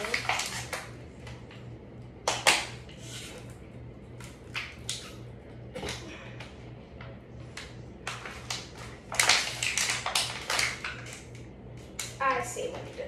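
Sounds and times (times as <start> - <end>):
ceiling fan pulsing hum: 0.0 - 13.0.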